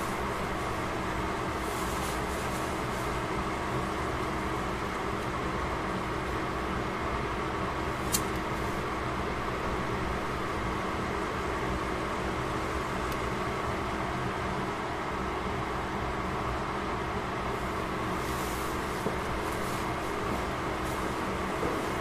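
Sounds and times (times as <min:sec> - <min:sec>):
vegetables cooking in covered pan: 0:00.0 - 0:14.0, 0:17.5 - 0:22.0.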